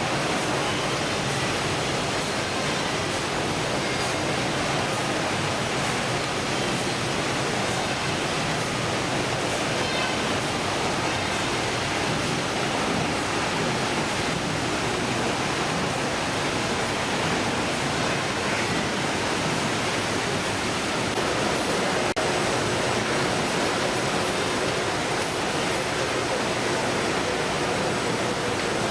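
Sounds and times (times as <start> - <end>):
steady rushing noise: 0.0 - 28.9.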